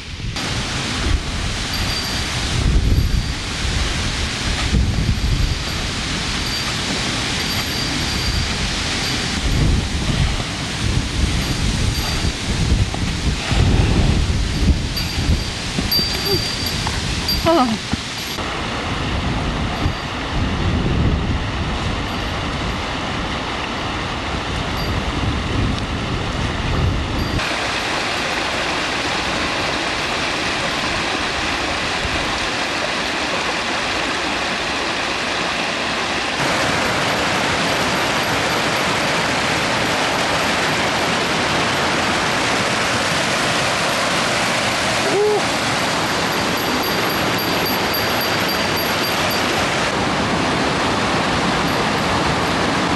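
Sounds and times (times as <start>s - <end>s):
mountain stream rushing over rocks: 0.0s - 52.9s.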